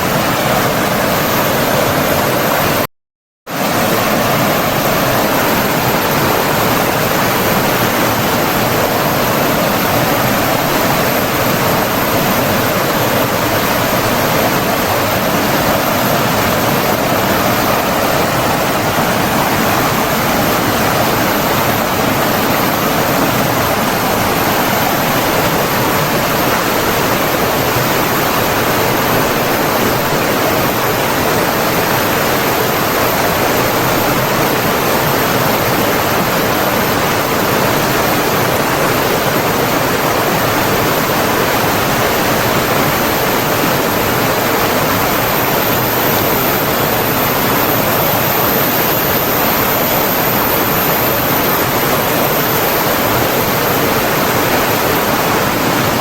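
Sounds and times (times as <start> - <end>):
flowing water rushing: 3.6 - 56.0.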